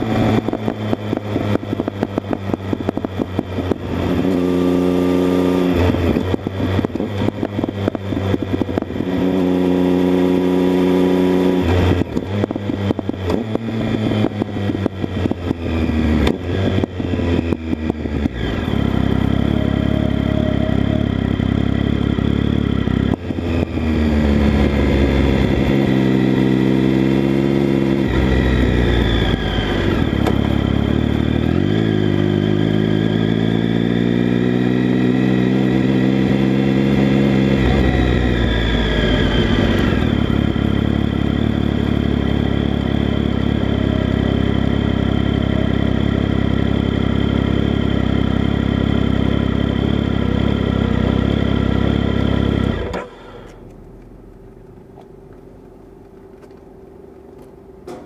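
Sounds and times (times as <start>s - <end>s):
motorcycle engine revving: 0.0s - 56.6s.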